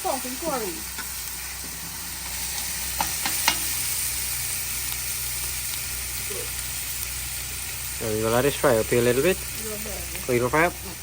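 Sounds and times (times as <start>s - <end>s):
curry sizzling in a pot: 0.0s - 11.0s.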